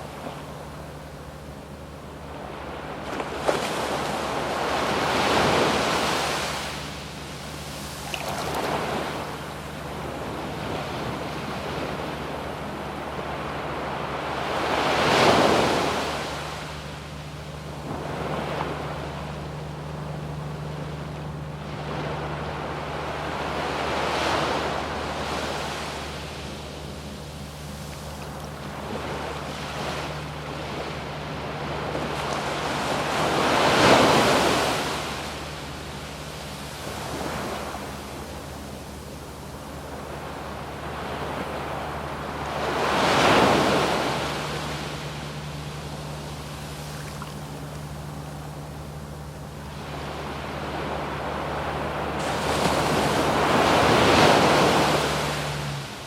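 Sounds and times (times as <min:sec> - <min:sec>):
waves breaking on beach: 0:02.3 - 0:56.0.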